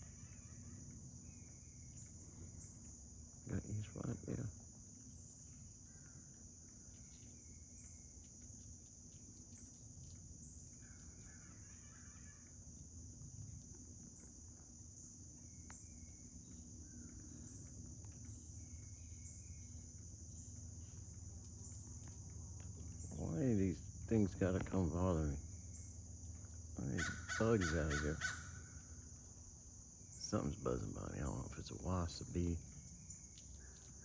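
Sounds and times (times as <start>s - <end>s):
faint bird chirps: 0.0s - 29.4s, 30.0s - 34.0s
insect chorus drone: 0.0s - 34.0s.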